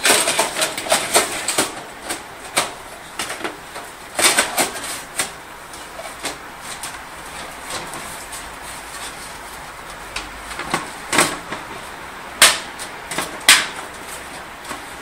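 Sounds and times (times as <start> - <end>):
computer case parts clacking: 0.0 - 15.0.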